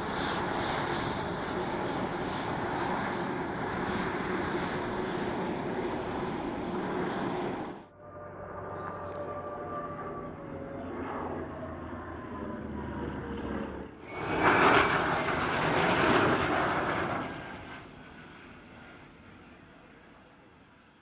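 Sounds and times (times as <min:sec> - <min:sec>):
jet engine roar at takeoff: 0:00.0 - 0:21.0
propeller planes droning overhead: 0:00.0 - 0:21.0.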